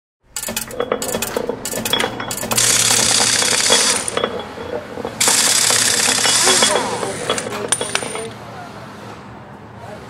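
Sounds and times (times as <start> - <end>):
gears clicking and clanking: 0.3 - 8.4
machine clattering with low hum: 0.3 - 8.4.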